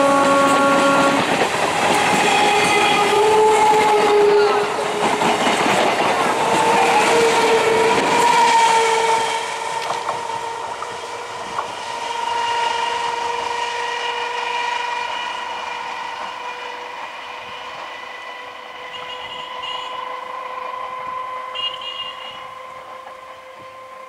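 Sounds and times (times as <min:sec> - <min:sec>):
train horn: 0:00.0 - 0:05.6, 0:06.4 - 0:24.0
train wheels rushing on rails: 0:00.0 - 0:24.0.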